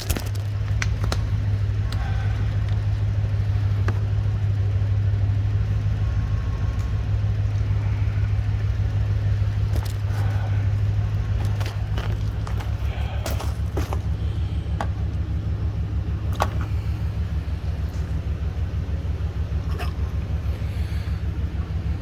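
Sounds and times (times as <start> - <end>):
motor running steadily: 0.0 - 22.0.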